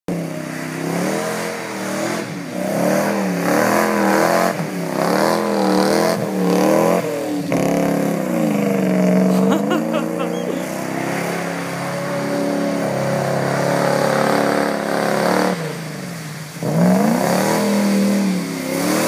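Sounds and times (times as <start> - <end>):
tyres spinning through mud and water: 0.1 - 19.0.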